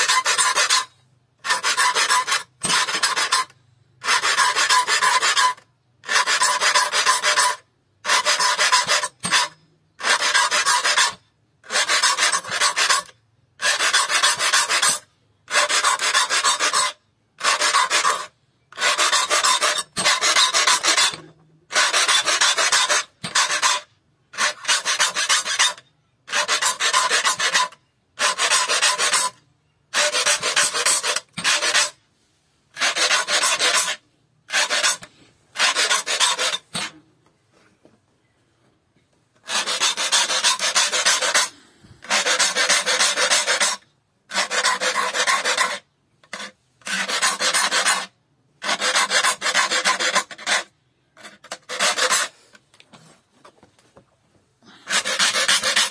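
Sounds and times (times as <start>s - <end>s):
file rasping on saw teeth: 0.0s - 32.0s, 32.7s - 37.0s, 39.4s - 52.6s, 54.7s - 55.9s.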